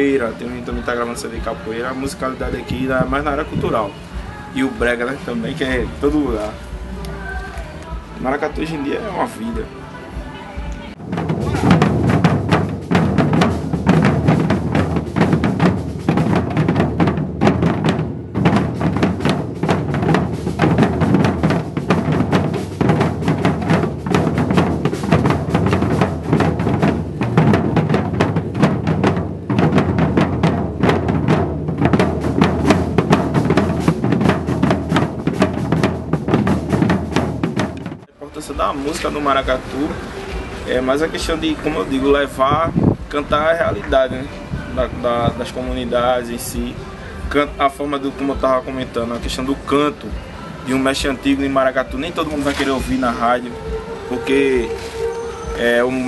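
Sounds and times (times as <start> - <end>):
drum ensemble playing: 0.0 - 9.7, 10.6 - 56.0.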